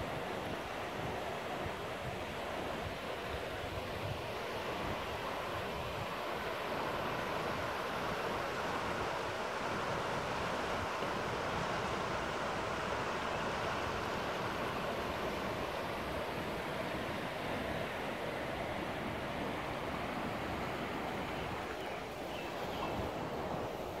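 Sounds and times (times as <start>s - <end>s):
river water rushing over riffles: 0.0s - 24.0s.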